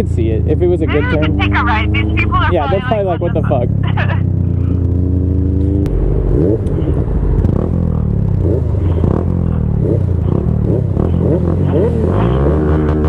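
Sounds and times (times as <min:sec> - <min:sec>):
motorcycle engine revving blips: 0:01.0 - 0:13.0
motorcycle engine running unevenly: 0:01.6 - 0:12.0.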